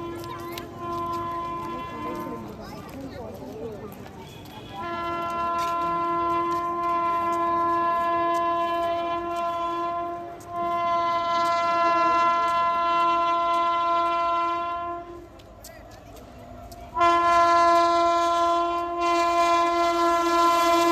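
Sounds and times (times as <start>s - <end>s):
locomotive horn blasts: 0.0s - 2.5s, 4.2s - 15.3s, 16.9s - 20.9s.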